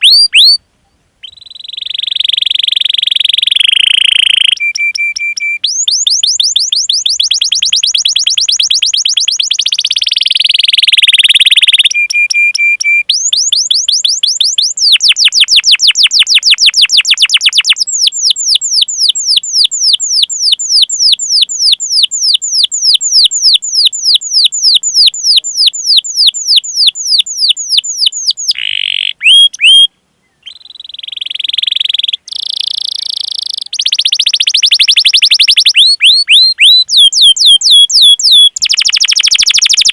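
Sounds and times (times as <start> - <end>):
canary singing: 0.0 - 0.6, 1.2 - 39.9.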